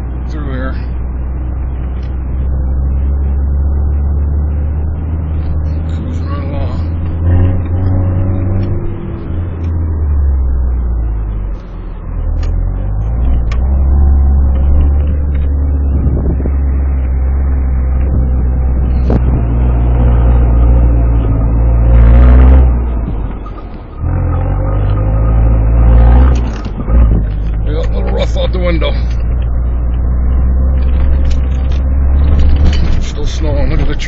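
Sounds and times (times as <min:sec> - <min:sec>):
vehicle engine pulling uphill: 0:00.0 - 0:34.0.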